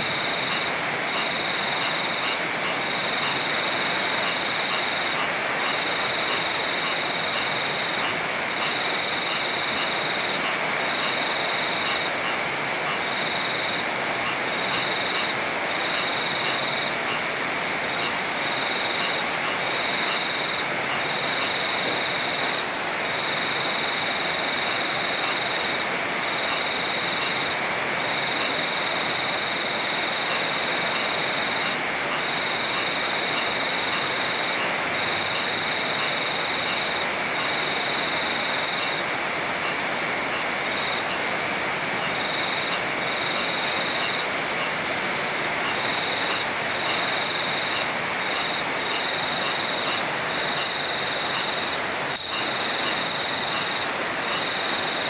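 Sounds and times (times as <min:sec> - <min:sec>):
heavy rain pouring: 0:00.0 - 0:55.0
river rushing: 0:00.0 - 0:55.0.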